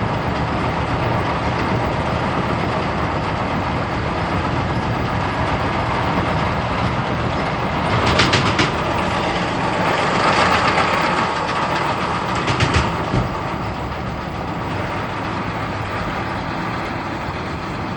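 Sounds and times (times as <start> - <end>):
rapid clicking of baler: 0.0 - 17.9
tractor engine running: 0.0 - 17.9.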